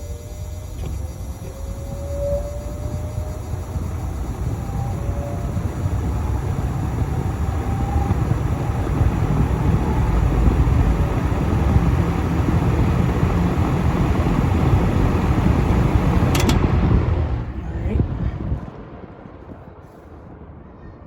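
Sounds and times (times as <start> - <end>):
box fan rushing air: 0.0 - 20.5.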